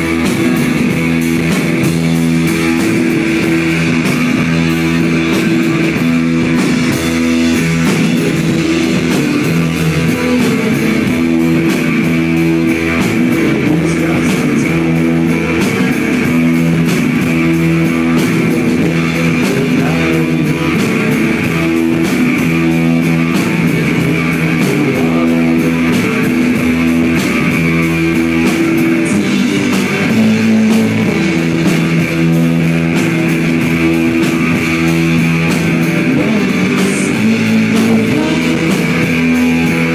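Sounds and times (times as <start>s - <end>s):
rock band playing loudly: 0.0s - 39.9s.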